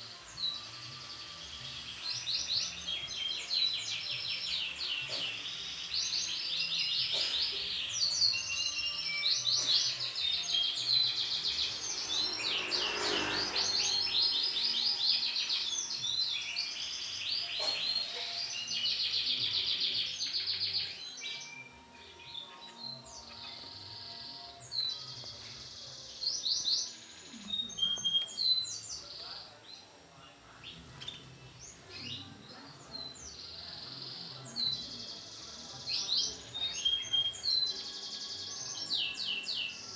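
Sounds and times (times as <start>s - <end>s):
canaries chirping and trilling: 0.0s - 39.9s.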